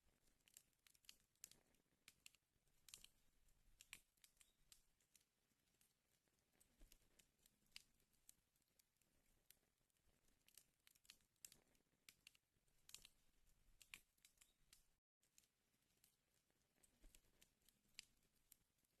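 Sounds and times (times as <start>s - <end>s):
wood fire crackling and popping: 0.1s - 19.0s.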